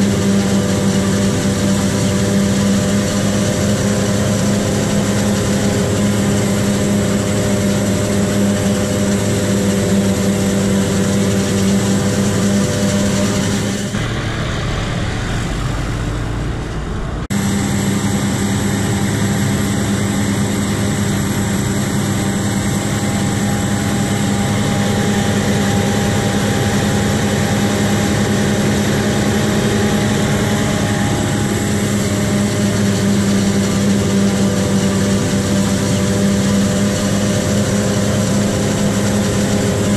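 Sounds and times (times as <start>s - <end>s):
diesel engine running steadily: 0.0s - 39.9s
hiss over engine hum: 0.0s - 39.9s.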